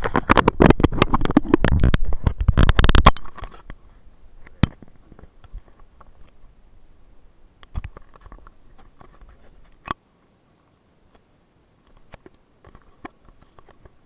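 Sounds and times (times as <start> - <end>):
handling noise on camera: 0.0 - 6.6, 7.6 - 14.0
faint rustling: 0.0 - 14.0.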